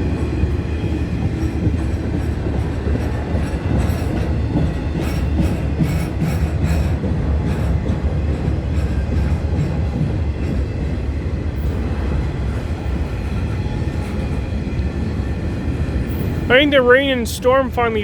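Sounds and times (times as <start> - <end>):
rail joint clicks: 0.0 - 18.0
train wheels rumbling on rail: 0.0 - 18.0.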